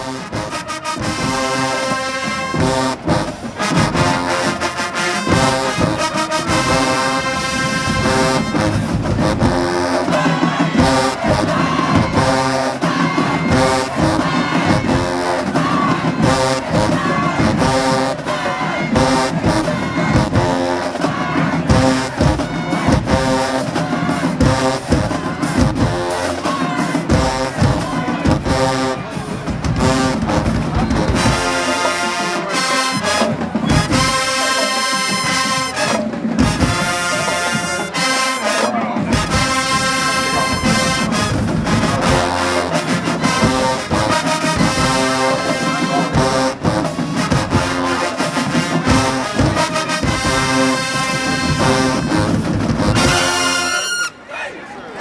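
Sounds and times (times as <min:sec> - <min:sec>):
drumline hits: 0:00.0 - 0:54.2
marching band brass: 0:00.0 - 0:55.0.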